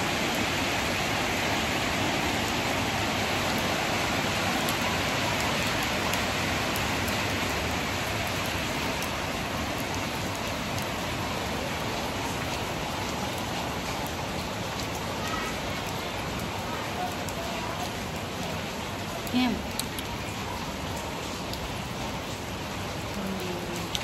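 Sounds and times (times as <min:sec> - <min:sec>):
rain on wet paving: 0:00.0 - 0:24.0.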